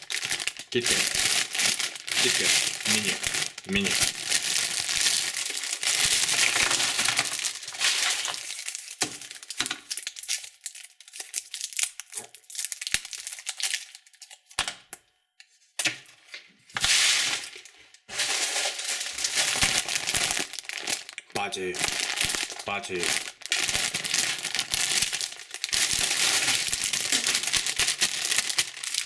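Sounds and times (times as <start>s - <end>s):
candy wrappers crinkling: 0.0s - 14.9s, 16.8s - 29.0s.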